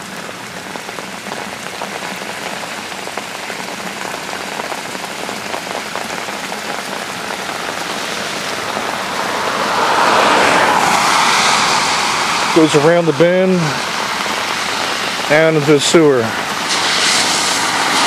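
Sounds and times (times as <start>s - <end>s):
water pouring into sewer grate: 0.0s - 18.0s
water running over concrete: 0.0s - 18.0s.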